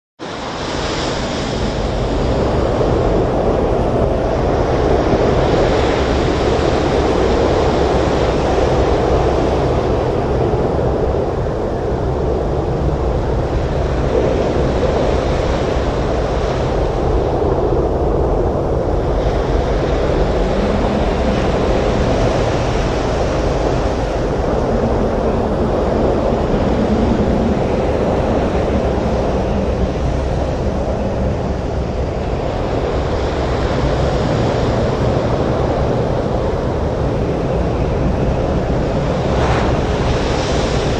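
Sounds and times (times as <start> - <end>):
storm surf breaking on beach: 0.2 - 40.9
strong wind: 0.2 - 40.9.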